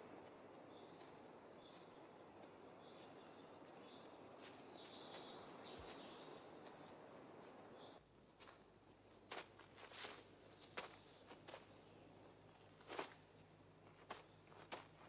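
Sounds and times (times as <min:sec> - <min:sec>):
faint outdoor hiss: 0:00.0 - 0:15.0
small birds chirping: 0:00.0 - 0:15.0.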